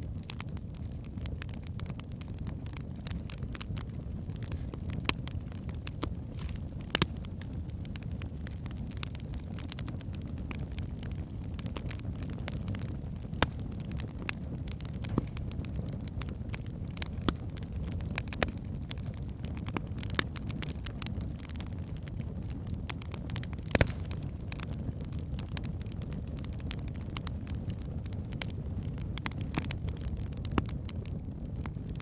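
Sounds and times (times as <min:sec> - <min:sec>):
fire rumbling: 0:00.0 - 0:32.0
logs crackling and popping: 0:00.0 - 0:32.0.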